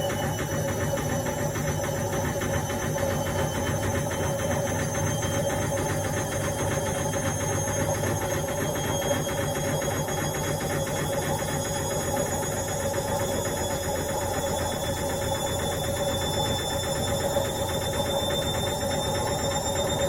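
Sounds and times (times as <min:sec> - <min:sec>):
faint high whine: 0:00.0 - 0:20.0
washing machine motor hum: 0:00.0 - 0:20.0.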